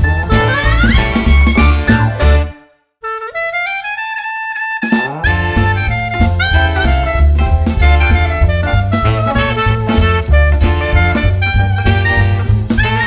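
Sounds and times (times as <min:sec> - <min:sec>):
jazz music with saxophone: 0:00.0 - 0:13.0.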